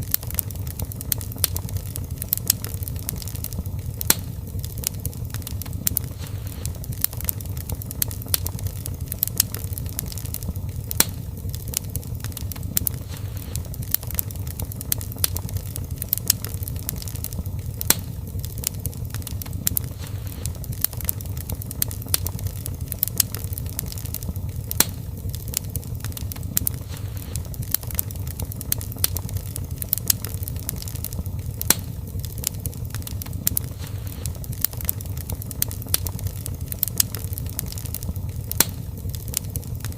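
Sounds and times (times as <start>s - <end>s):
low rumble of flame: 0.0s - 39.9s
sharp pops and snaps: 0.0s - 39.9s
wood fire crackling: 0.0s - 39.9s.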